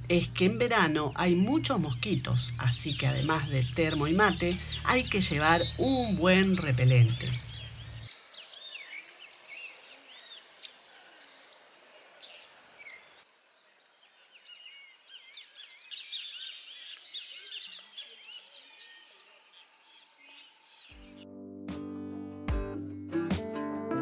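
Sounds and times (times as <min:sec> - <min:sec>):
birds chirping and calling: 0:00.0 - 0:21.2.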